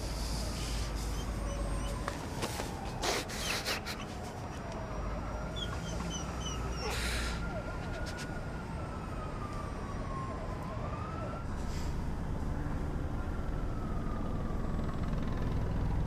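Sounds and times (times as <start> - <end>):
road traffic rumble: 0.0 - 16.0
siren wailing: 0.4 - 11.5, 13.0 - 16.0.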